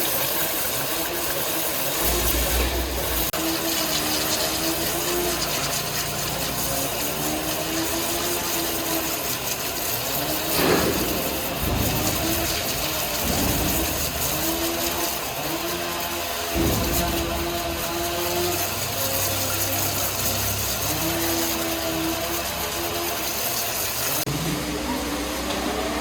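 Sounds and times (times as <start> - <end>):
workshop machinery humming: 0.0 - 26.0.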